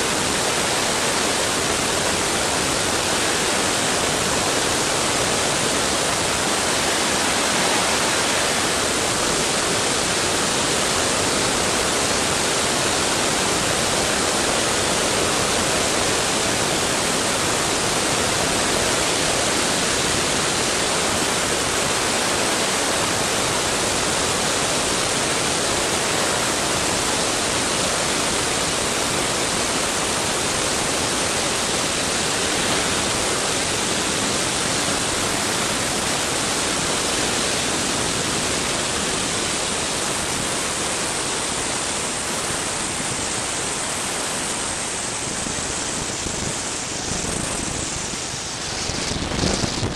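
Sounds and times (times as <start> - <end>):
rushing wind noise: 0.0 - 49.9.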